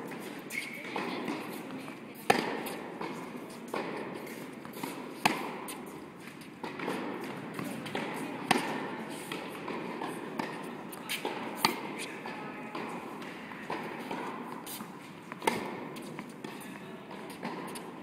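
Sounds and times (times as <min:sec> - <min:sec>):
tennis ball racquet hits: 0:00.0 - 0:18.0.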